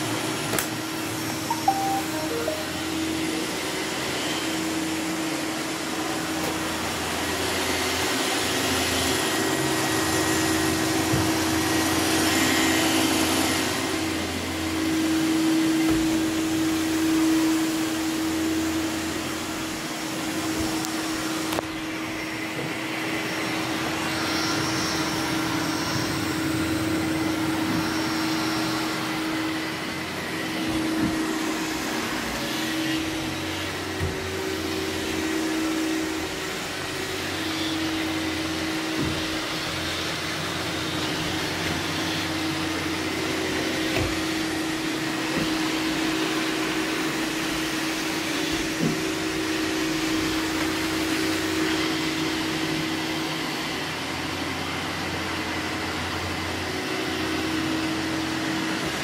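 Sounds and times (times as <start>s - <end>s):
robot vacuum running: 4.6s - 59.0s.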